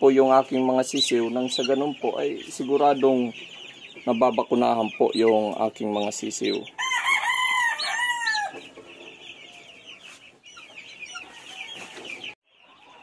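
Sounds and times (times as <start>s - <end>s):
many chicks cheeping: 0.0s - 13.0s
chick peeping loudly: 0.1s - 13.0s.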